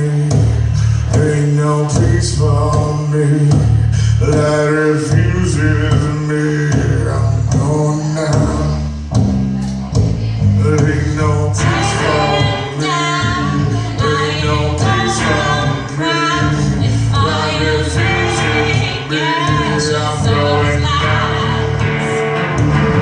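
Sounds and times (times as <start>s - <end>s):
blues-rock band playing: 0.0s - 23.0s
low bass notes: 0.0s - 23.0s
sung vocals: 0.0s - 23.0s.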